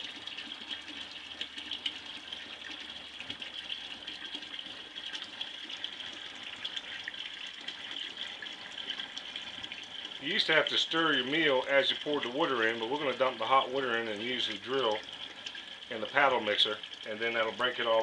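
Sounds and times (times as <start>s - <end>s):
water running into plastic bucket: 0.0s - 18.0s.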